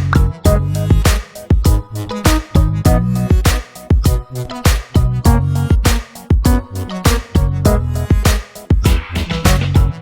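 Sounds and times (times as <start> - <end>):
funk music with drums and bass: 0.0 - 10.0.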